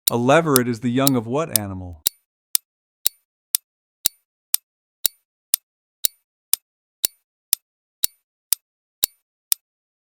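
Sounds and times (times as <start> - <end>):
clock ticking: 0.0 - 9.6.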